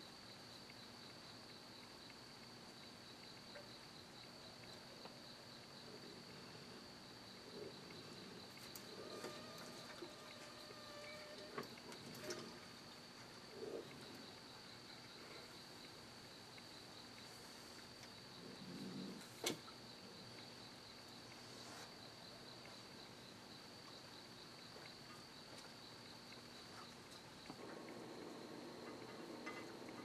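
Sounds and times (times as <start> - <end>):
night insect chorus: 0.0 - 30.0.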